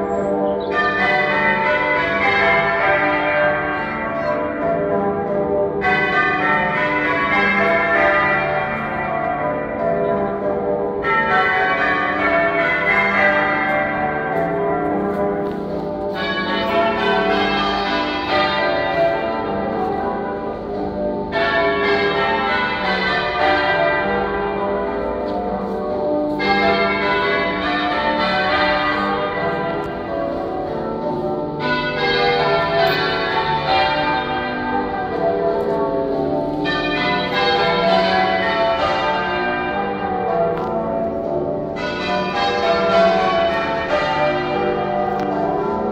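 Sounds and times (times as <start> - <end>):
church bells clear strokes: 0.0 - 45.9
muffled church bell strokes: 0.0 - 45.9.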